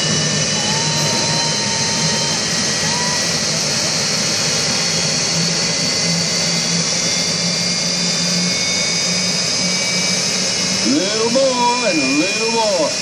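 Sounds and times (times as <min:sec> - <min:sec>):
turbine engine rush and whine: 0:00.0 - 0:13.0.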